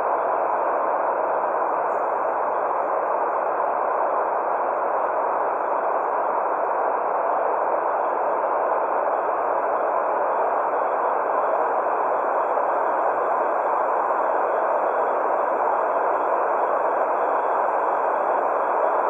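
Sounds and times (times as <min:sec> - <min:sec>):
steady white noise hiss: 0:00.0 - 0:19.0.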